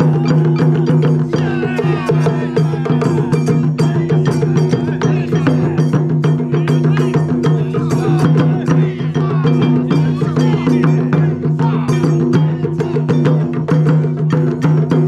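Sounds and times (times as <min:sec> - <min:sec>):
taiko drum ensemble playing: 0:00.0 - 0:15.0.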